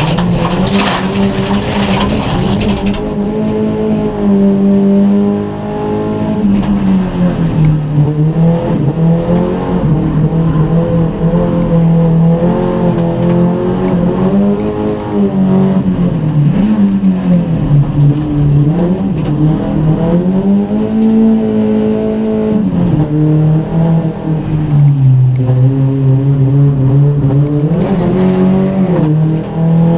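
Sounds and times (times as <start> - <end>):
race car engine revving: 0.0 - 29.9.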